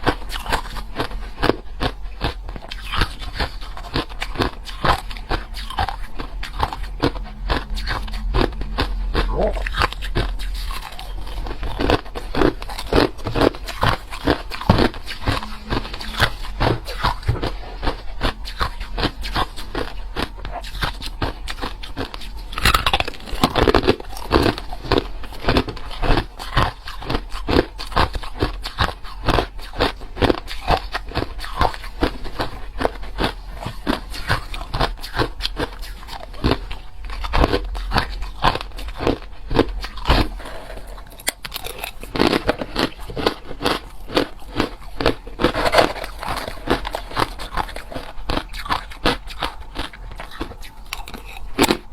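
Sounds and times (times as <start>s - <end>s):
ice being chewed: 0.0s - 51.9s.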